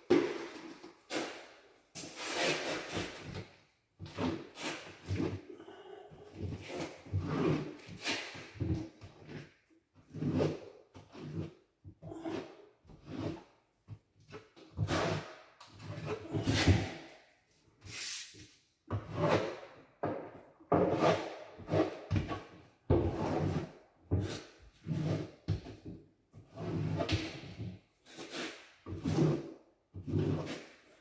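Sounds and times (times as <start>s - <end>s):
trowel scraping mastic on wall: 0.1s - 17.2s, 17.8s - 31.0s.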